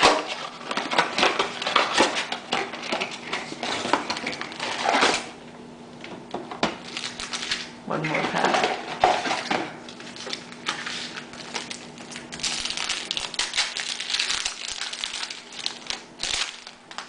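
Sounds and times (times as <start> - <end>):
wrapper crinkling and tearing: 0.0 - 5.3, 6.8 - 17.0.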